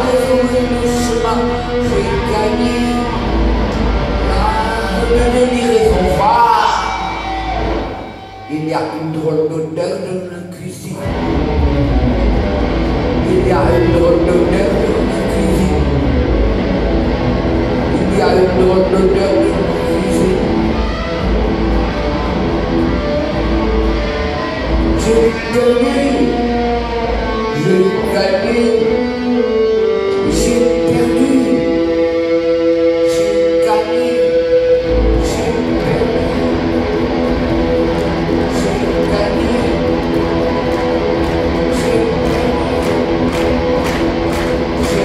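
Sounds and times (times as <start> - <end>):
live band music with guitar: 0.0 - 9.2, 11.0 - 45.0.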